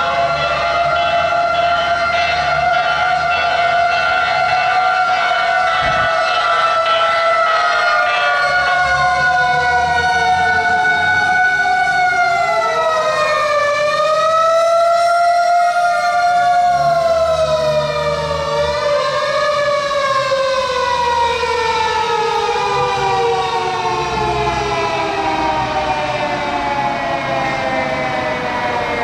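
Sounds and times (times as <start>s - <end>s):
fire engine siren wailing: 0.0s - 29.0s.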